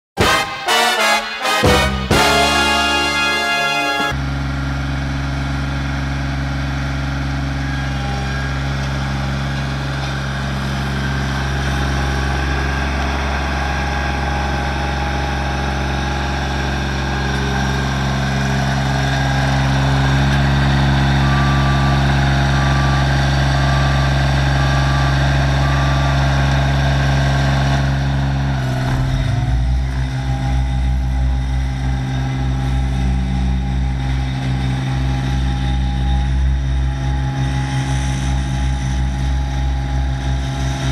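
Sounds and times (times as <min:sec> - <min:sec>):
road roller diesel engine: 0:00.2 - 0:40.9.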